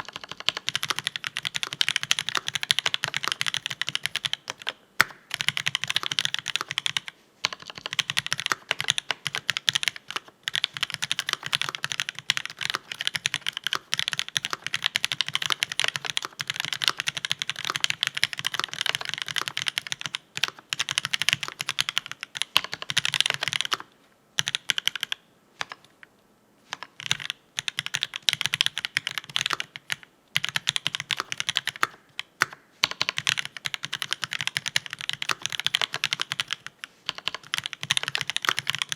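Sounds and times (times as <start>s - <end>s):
mechanical keyboard typing: 0.0s - 25.9s, 26.7s - 38.9s.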